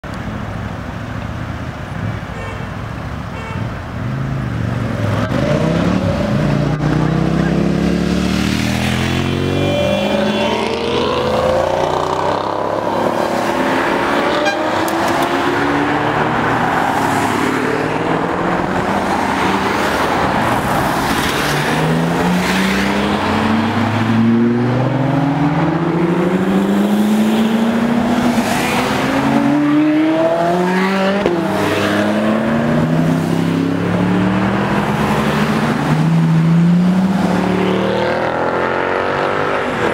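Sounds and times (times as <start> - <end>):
sports cars accelerating: 4.0 - 39.9.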